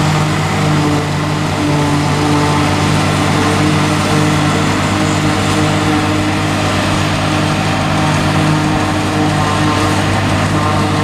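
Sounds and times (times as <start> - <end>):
forage harvester chopping hay: 0.0 - 11.0
tractor engine under load: 0.0 - 11.0.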